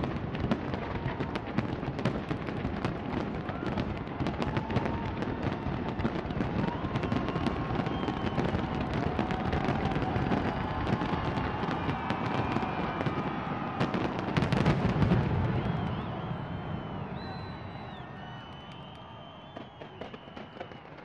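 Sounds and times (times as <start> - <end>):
fireworks crackling bangs: 0.0 - 21.0
fireworks whistling: 0.0 - 21.0.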